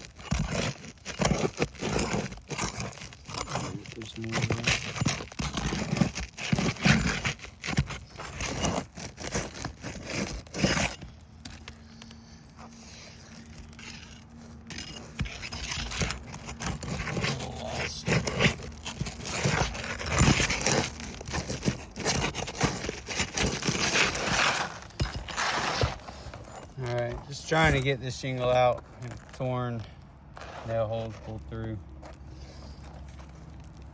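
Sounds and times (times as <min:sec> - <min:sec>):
roof shingle scraping and crackling: 0:00.0 - 0:33.9.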